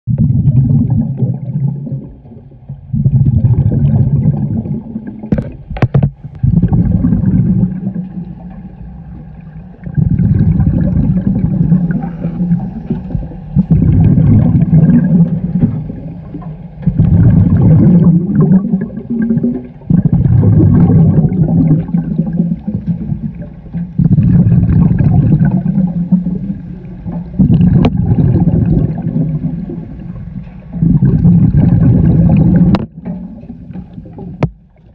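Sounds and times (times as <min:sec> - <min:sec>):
underwater exhaled air bubbling: 0:00.1 - 0:34.9.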